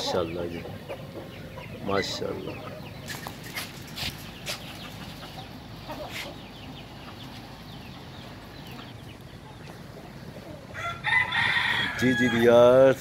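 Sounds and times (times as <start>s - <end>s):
chickens clucking and chirping: 0.0s - 13.0s.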